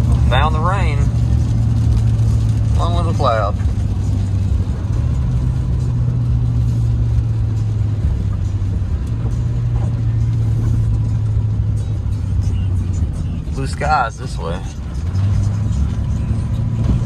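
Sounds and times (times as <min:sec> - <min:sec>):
truck engine and road drone: 0:00.0 - 0:17.0.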